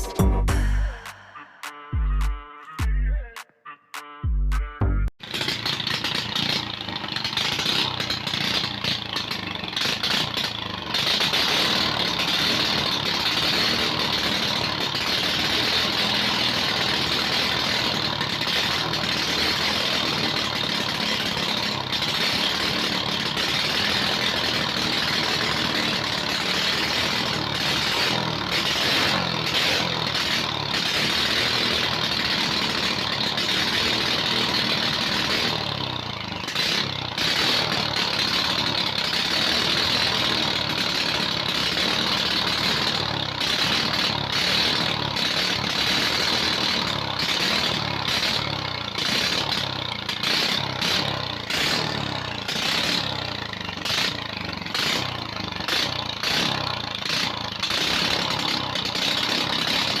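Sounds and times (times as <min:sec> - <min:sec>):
small engine running: 0:05.2 - 1:00.0.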